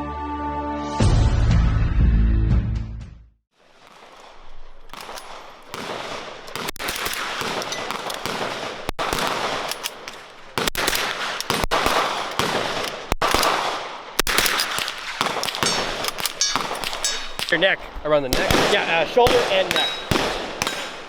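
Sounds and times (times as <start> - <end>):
gunshots with echoes: 3.7 - 21.0.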